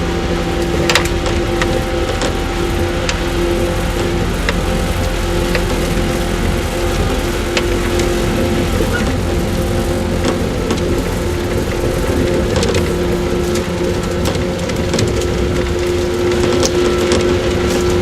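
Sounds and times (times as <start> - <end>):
traction motor hum: 0.0 - 18.0
wheels rumbling on rails: 0.0 - 18.0.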